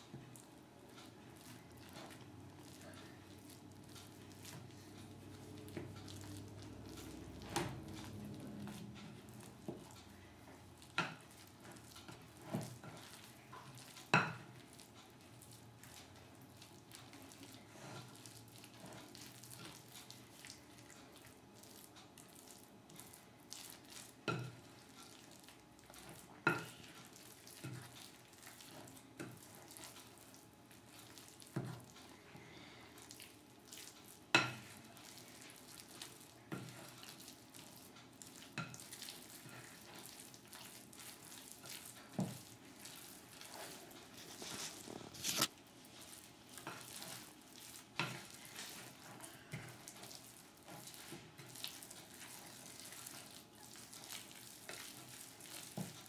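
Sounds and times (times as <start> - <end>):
batter stirred by hand: 0.0 - 56.0.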